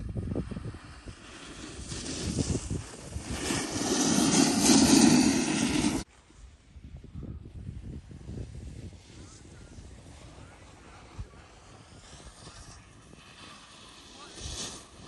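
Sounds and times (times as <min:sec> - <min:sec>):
snowboard scraping on snow: 0:00.1 - 0:06.1, 0:08.1 - 0:15.0.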